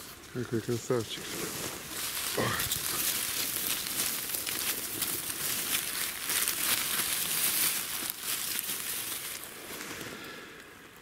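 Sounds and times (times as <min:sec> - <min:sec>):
dry leaves and twigs crackling: 0:00.0 - 0:11.0.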